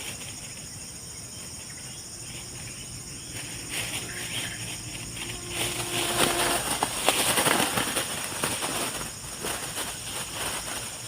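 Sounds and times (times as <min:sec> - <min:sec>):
insects buzzing and shrilling: 0:00.0 - 0:11.0
rustling: 0:00.0 - 0:11.0.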